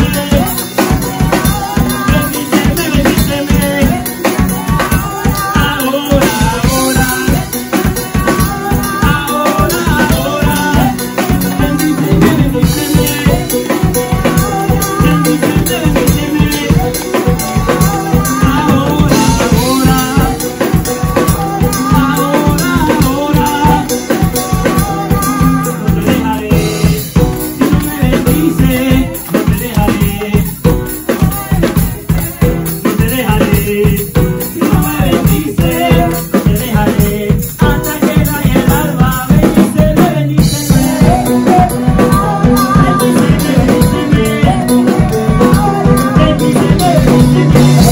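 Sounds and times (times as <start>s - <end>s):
bass: 0.0s - 47.9s
drum kit steady beat: 0.0s - 47.9s
keyboard: 0.0s - 47.9s.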